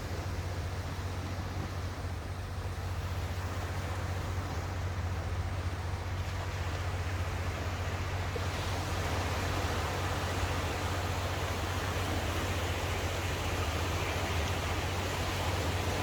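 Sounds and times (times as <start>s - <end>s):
ocean surf washing on shore: 0.0s - 16.0s
wind rumble on microphone: 0.0s - 16.0s.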